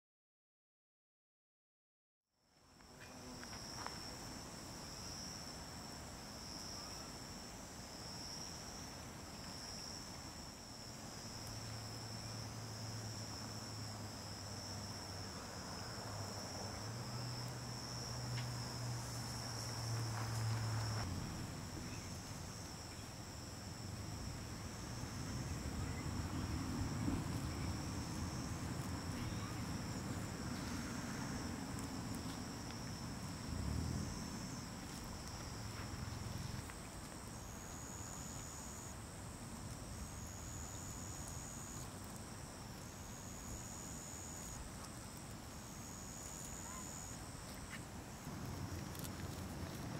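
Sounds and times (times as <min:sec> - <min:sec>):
insects chirring: 0:02.6 - 0:49.9.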